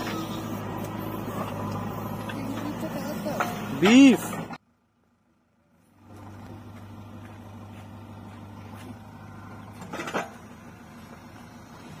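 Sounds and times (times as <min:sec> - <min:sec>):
engine clatter: 0:00.0 - 0:04.7, 0:05.9 - 0:12.0
diesel engines running: 0:00.0 - 0:12.0.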